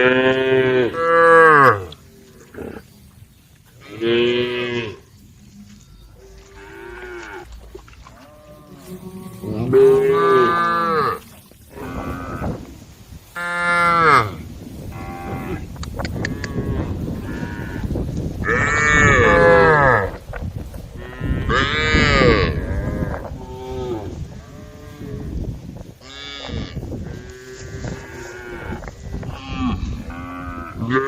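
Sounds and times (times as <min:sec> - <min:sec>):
cows mooing: 0:00.0 - 0:02.9, 0:03.8 - 0:12.7, 0:13.4 - 0:20.2, 0:21.0 - 0:25.4, 0:26.0 - 0:31.0.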